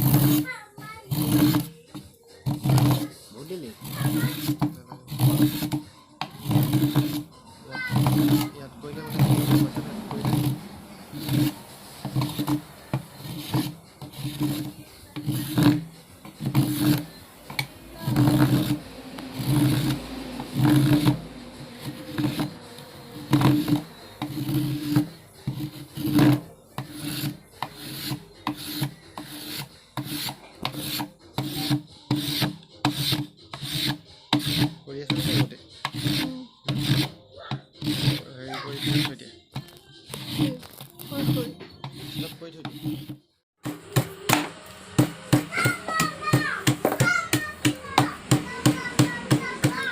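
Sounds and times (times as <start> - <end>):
hand tool rubbing on wood: 0.0 - 1.8, 2.5 - 39.2, 40.1 - 43.2.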